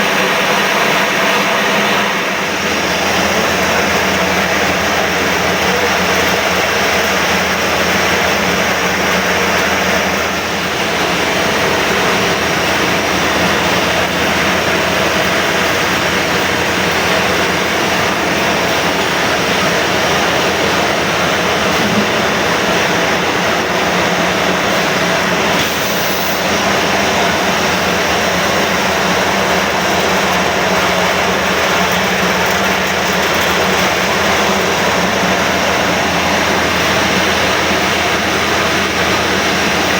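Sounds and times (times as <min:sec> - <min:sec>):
milling machine roaring: 0:00.0 - 0:39.9.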